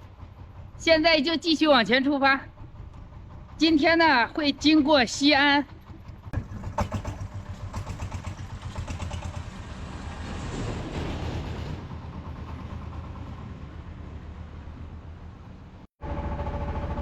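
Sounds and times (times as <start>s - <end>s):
motor tricycle engine chugging: 0.0s - 14.7s, 15.4s - 17.0s.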